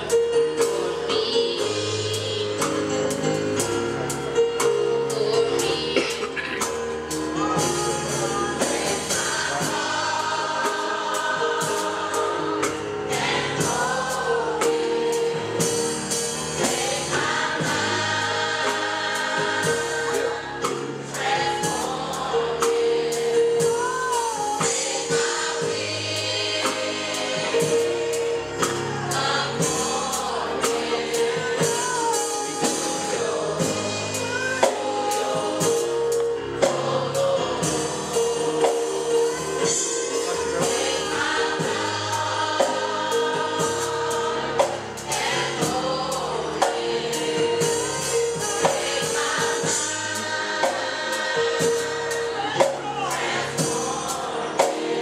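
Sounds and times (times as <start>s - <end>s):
choir singing gospel: 0.0s - 55.0s
drum kit with cymbals: 0.0s - 55.0s.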